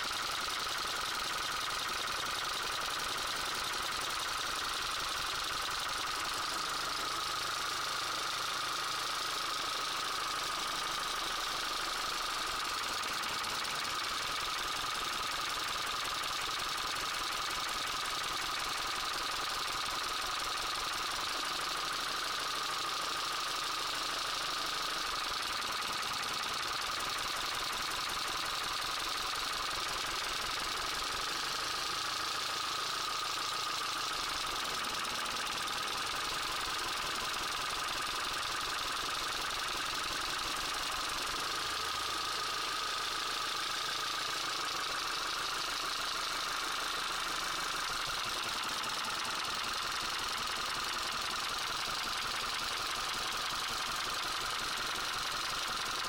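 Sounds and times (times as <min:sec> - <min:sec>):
engine knocking and rattling: 0:00.0 - 0:56.0.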